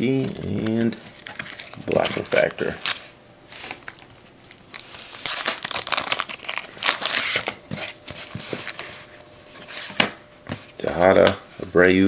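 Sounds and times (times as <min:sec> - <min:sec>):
plastic crinkling and rustling: 0:00.2 - 0:10.0.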